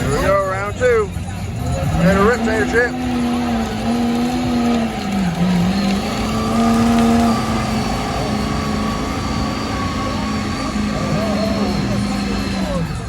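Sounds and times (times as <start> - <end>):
off-road vehicle engine revving high: 0.0 - 13.0.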